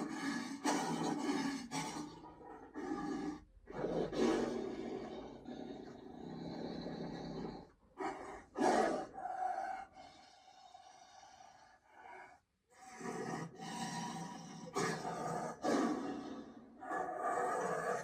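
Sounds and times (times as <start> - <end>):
cartoon tiger snarl: 0.0 - 11.7, 12.7 - 18.0
cartoon tiger growling: 0.0 - 18.0.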